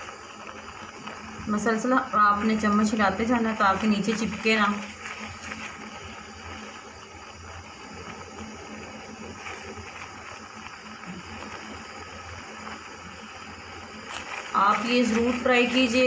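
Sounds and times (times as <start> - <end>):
milk mixture bubbling in pan: 0.0 - 16.0.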